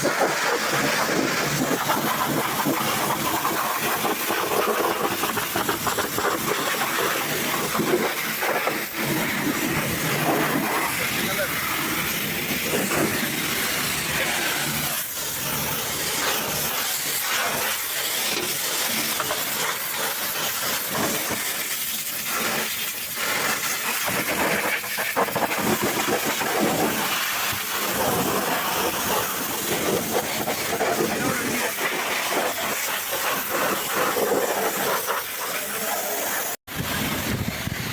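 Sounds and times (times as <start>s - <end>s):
pressure washer water spray: 0.0s - 37.9s.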